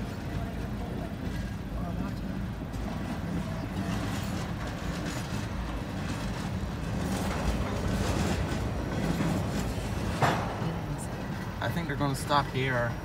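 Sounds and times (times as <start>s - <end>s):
rail cars creaking and clanking: 0.0s - 13.0s
train wheels rumbling on rails: 0.0s - 13.0s.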